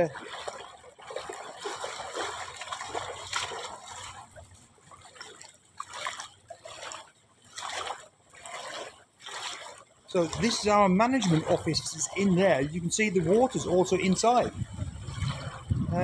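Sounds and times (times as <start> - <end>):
wading splashes in water: 0.0 - 16.0.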